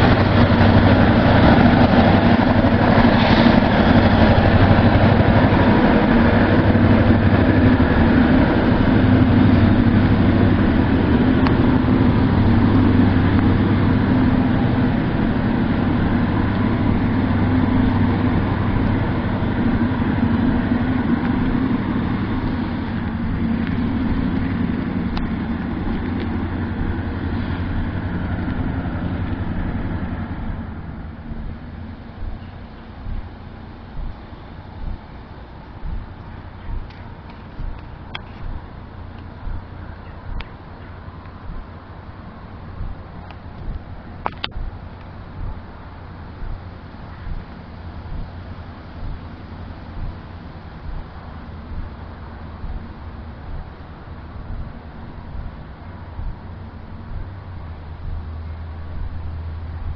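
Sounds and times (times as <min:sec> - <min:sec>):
locomotive engine humming: 0:00.0 - 0:59.9.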